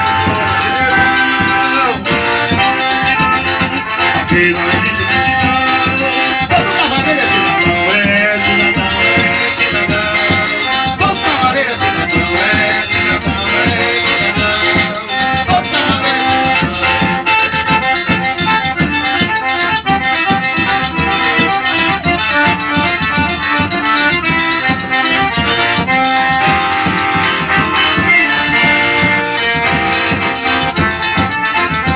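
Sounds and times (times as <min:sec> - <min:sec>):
accordion playing held notes: 0:00.0 - 0:31.9
steady percussion rhythm: 0:00.0 - 0:31.9.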